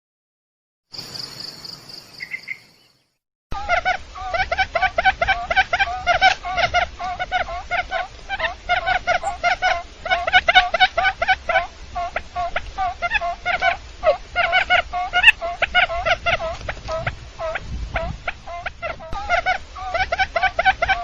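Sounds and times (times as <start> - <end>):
quail rapid chirping: 2.0 - 3.0, 3.6 - 21.0
quail trill: 2.2 - 2.9, 3.6 - 21.0.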